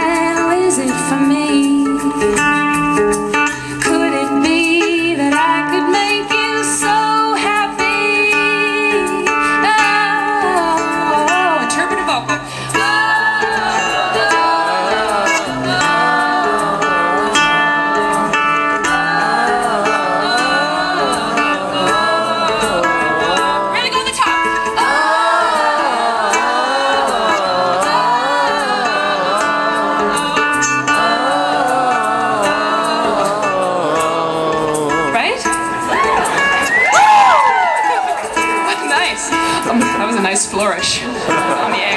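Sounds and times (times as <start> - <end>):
person singing wordless melody: 0.0 - 36.0
strummed string instrument: 0.0 - 41.9.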